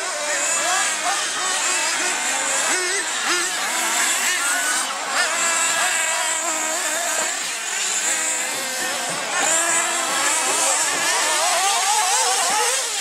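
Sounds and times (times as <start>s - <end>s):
small engines whining at high revs: 0.0s - 13.0s.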